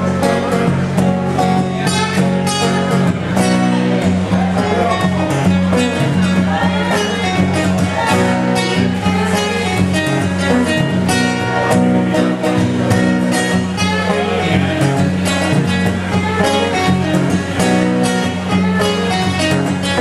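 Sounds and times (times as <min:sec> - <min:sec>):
acoustic guitars strummed: 0:00.0 - 0:20.0.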